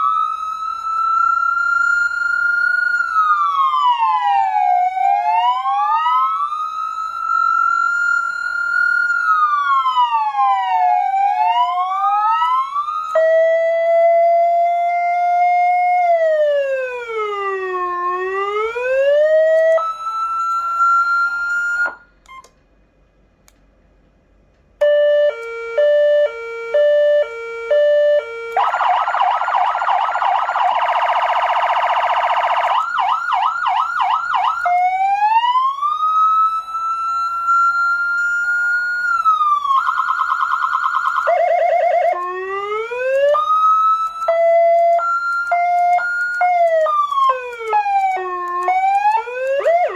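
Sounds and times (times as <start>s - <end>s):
electronic siren wailing and yelping: 0.0s - 7.7s, 8.8s - 22.0s, 25.1s - 49.9s.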